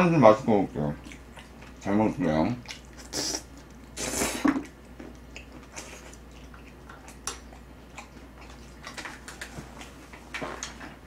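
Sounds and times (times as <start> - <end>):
food being chewed: 0.8 - 11.0.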